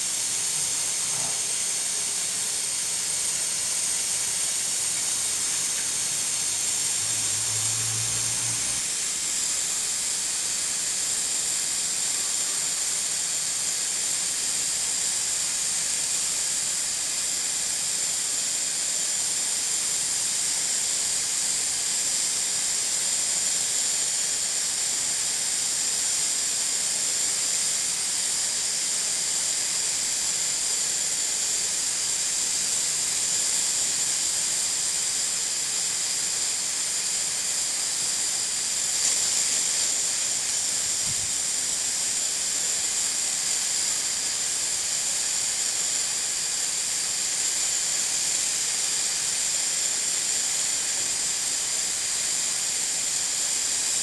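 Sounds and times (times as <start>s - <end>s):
pressure cooker steam hiss: 0.0s - 54.0s.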